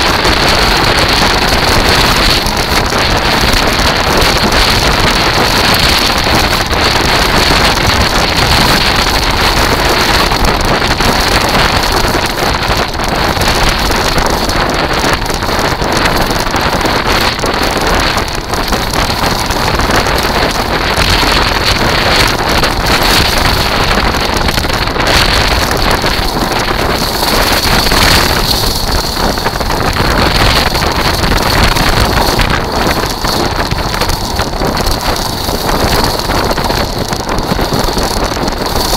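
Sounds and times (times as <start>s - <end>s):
steady high whine: 0.0s - 38.9s
wheels rolling on pebbles: 0.0s - 38.9s
wind on microphone: 0.0s - 38.9s.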